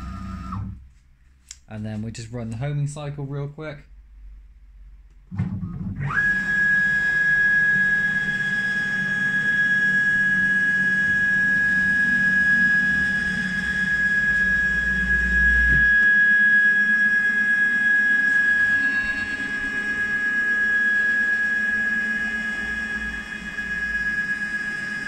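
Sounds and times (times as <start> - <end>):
stepper motor whine: 0.0 - 0.8, 5.4 - 25.0
low hum: 3.8 - 25.0.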